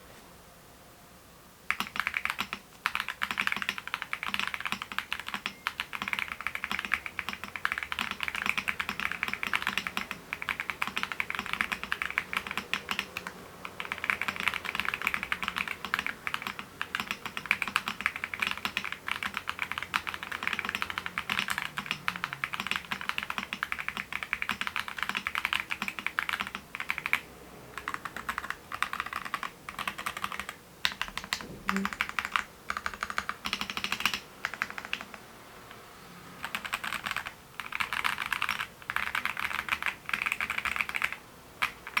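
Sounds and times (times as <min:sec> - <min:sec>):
fast typing on mechanical keyboard: 0:01.7 - 0:35.2, 0:36.4 - 0:42.0.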